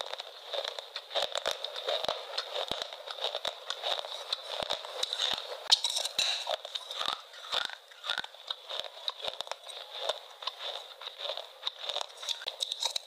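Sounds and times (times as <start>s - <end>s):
crunchy chewing: 0.0s - 13.0s
wet mouth clicks: 0.6s - 13.0s.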